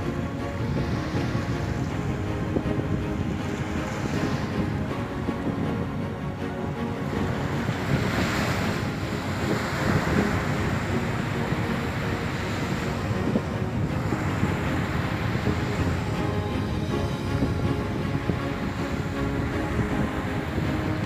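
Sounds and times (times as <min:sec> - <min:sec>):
small waves breaking on beach: 0:00.0 - 0:21.0
wind buffeting microphone: 0:00.0 - 0:21.0.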